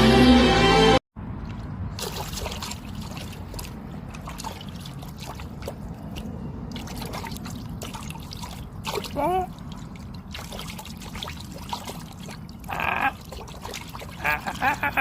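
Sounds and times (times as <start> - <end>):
water drips and splashes: 1.4 - 15.0
water trickling: 1.4 - 15.0.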